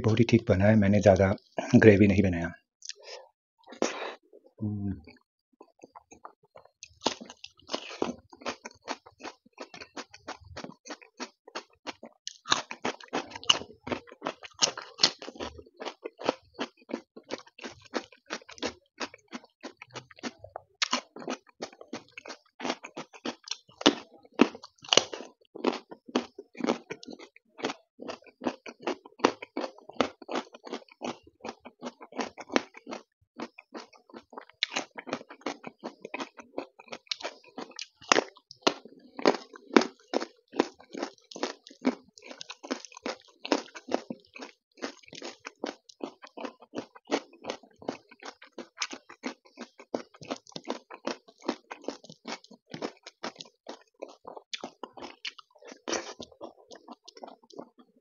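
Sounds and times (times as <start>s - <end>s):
chewing and wet mouth sounds: 5.0s - 58.0s
crunching raw carrot: 5.7s - 57.9s.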